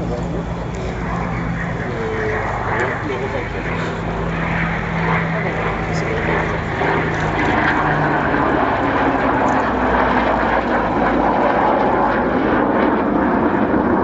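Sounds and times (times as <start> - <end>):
propeller aircraft engine: 0.0 - 14.0.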